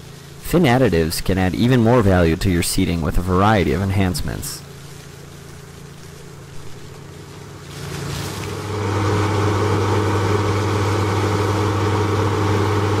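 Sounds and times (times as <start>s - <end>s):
hydroseeder engine hum: 0.0s - 13.0s.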